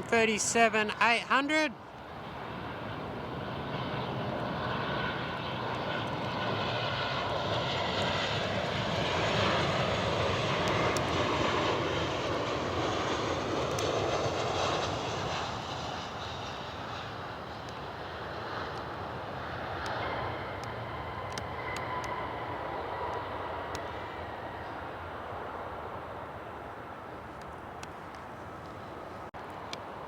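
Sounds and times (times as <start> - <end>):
jet engines roaring: 0.0 - 30.0
faint gliding whines: 1.7 - 30.0.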